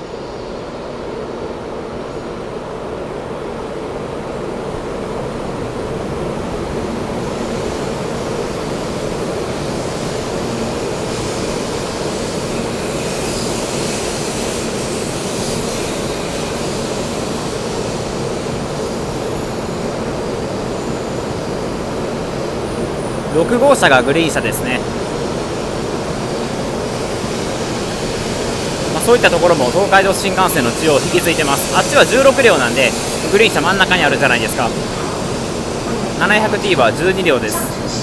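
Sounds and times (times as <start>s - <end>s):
train rushing into station: 0.0s - 38.0s.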